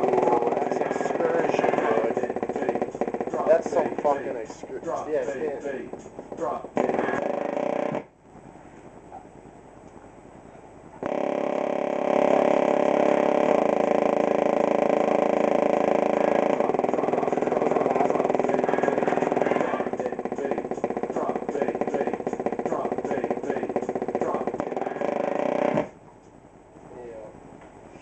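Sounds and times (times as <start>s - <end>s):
distorted bass drone from subwoofer: 0.0s - 26.1s.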